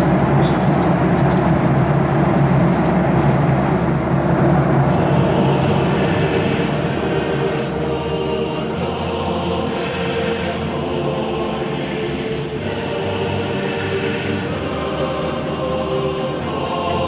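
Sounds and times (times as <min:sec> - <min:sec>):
jet engines droning: 0:00.0 - 0:17.0
steady humming tones: 0:00.0 - 0:17.0
rushing airflow: 0:00.3 - 0:17.0.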